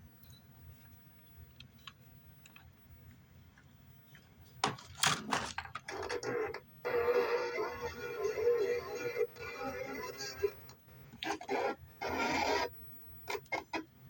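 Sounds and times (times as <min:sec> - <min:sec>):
faint tape playback: 0:00.0 - 0:14.0.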